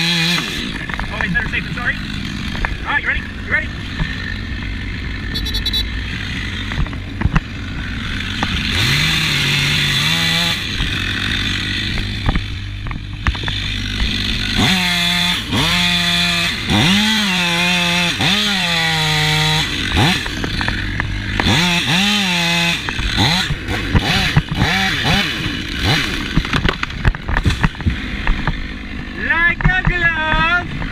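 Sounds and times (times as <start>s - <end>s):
chainsaw revving: 0.0s - 30.9s.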